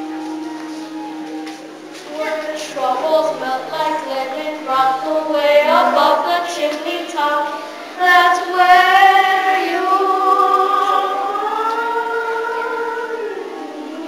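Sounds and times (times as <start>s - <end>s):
child singing slow melody: 2.0s - 14.0s.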